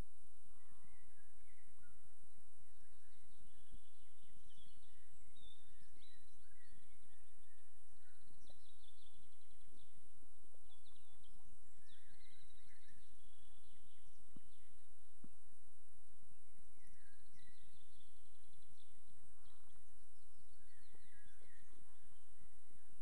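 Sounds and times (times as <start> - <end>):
small birds chirping: 0.0 - 23.0
steady outdoor hiss: 0.0 - 23.0.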